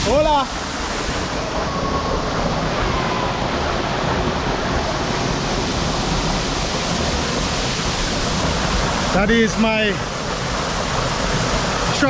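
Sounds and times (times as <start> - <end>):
water pouring and splashing into pool: 0.0 - 12.0.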